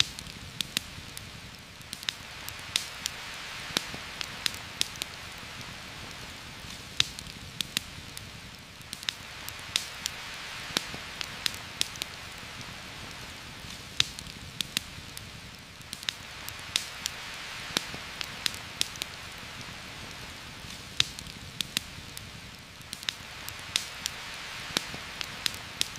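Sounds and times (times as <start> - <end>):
campfire crackling and popping: 0.0 - 25.9
rain falling on leaves: 0.0 - 25.9.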